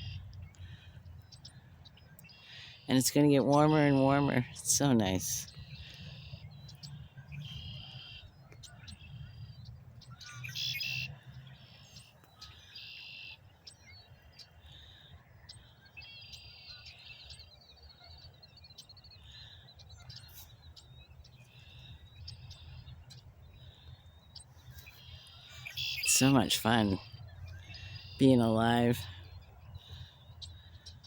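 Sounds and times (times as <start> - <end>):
birds singing trills: 0.0 - 31.0.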